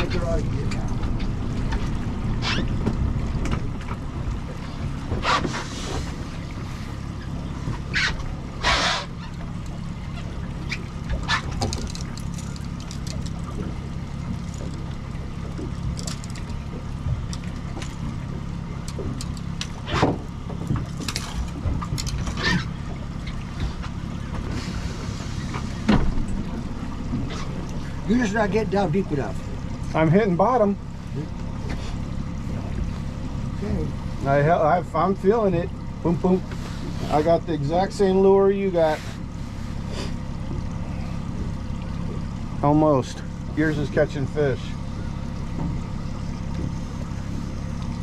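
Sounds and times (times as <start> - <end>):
outboard motor droning: 0.0 - 48.0
water and hull noise: 0.0 - 48.0.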